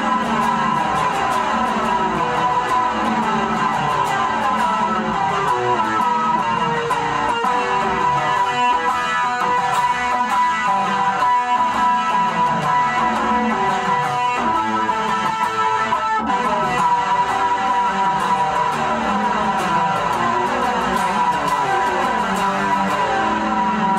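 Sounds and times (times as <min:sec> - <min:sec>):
guitar playing: 0:00.0 - 0:23.9.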